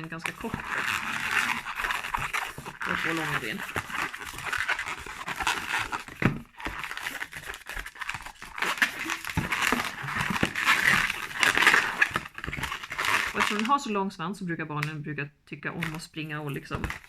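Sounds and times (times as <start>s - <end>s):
balloon squeaking being twisted: 0.0s - 13.9s, 15.8s - 17.0s.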